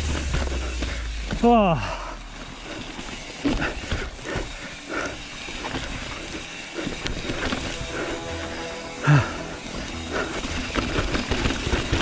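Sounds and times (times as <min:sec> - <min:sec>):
mountain bike rattling: 0:00.0 - 0:12.0.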